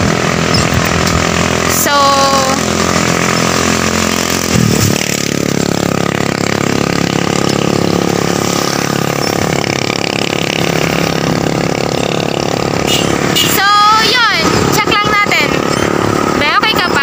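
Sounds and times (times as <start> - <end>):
motorcycle engine running: 0.0 - 17.0
road noise: 0.0 - 17.0
rushing wind: 0.0 - 17.0.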